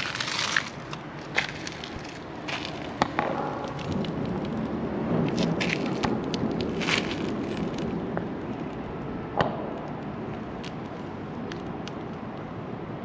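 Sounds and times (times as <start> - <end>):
steady construction rumble: 0.0 - 13.0.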